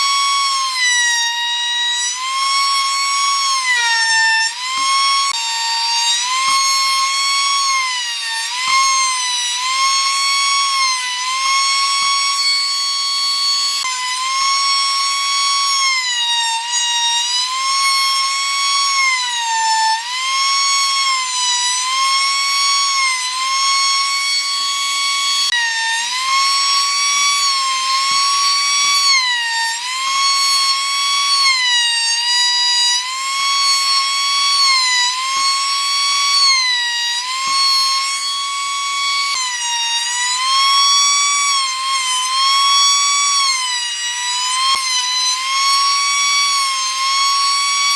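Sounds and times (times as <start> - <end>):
power tool whining: 0.0 - 47.9.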